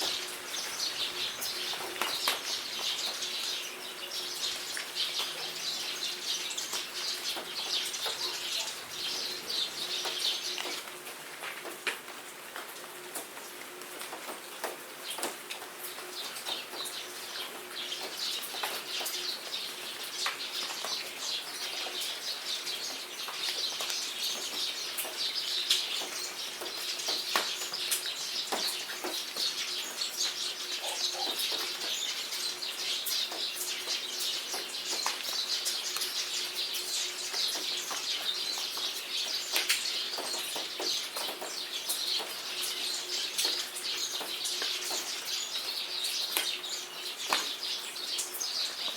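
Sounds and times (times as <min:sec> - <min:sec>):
birds chirping: 0:00.0 - 0:10.9, 0:15.0 - 0:48.9
rain pattering: 0:00.0 - 0:48.9.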